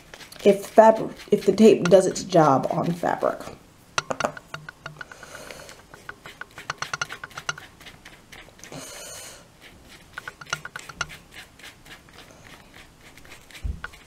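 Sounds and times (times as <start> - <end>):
paintbrush tapping and scraping: 0.0 - 14.0.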